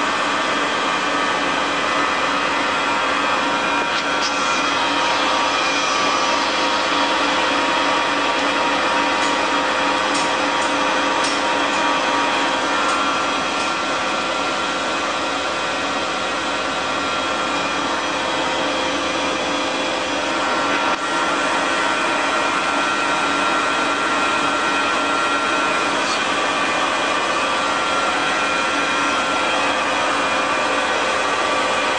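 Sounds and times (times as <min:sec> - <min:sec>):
machinery whirring hum: 0:00.0 - 0:31.9.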